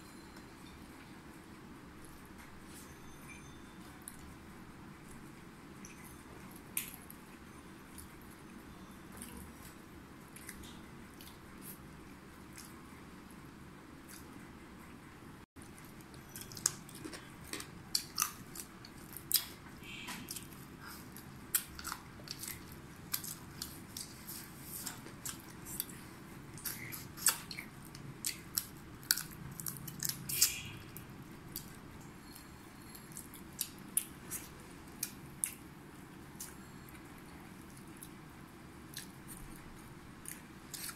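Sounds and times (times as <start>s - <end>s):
people chewing food: 3.8s - 40.9s.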